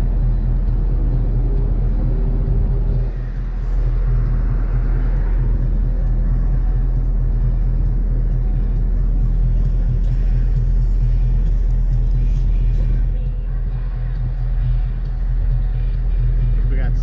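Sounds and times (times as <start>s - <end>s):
music playing: 0.0s - 17.0s
vehicle engine and road rumble: 0.0s - 17.0s.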